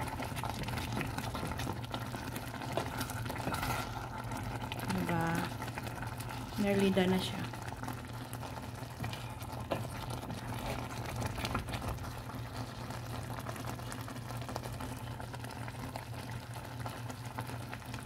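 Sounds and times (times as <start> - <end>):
low steady hum: 0.0 - 18.0
noodles boiling in a pot: 0.0 - 18.0.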